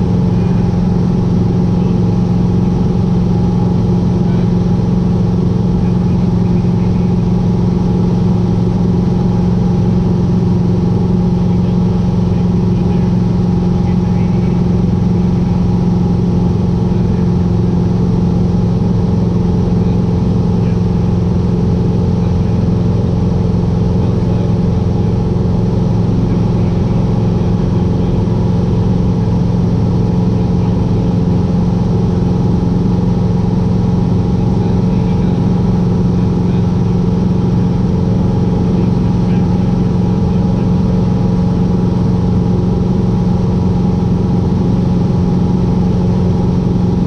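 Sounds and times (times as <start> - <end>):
light aircraft engine and propeller: 0.0 - 47.0.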